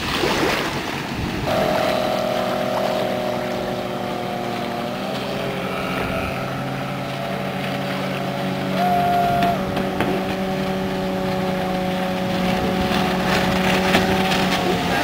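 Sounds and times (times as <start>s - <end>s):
speedboat engines droning: 0.0s - 15.0s
higher engine note: 1.4s - 15.0s.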